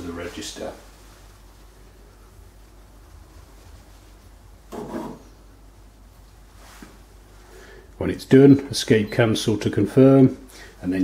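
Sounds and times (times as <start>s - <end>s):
room tone hum: 0.0s - 11.0s.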